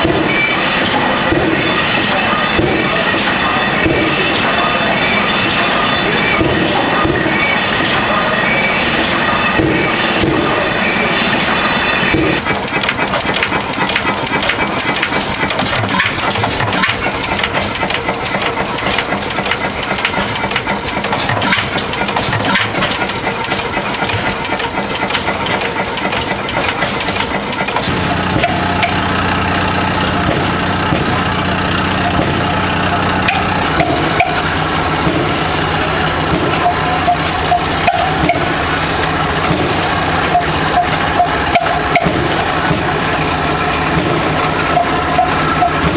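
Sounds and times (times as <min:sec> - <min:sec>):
old stationary engines running: 0:00.0 - 0:45.9.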